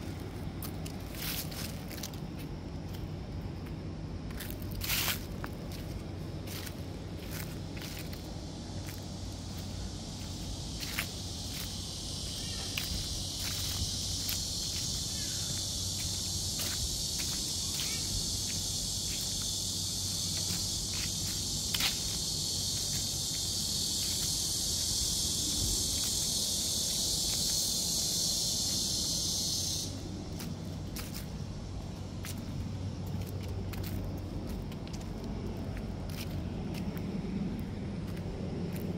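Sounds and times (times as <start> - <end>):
footsteps on leafy paving: 0.0 - 38.9
insects singing: 0.0 - 38.9.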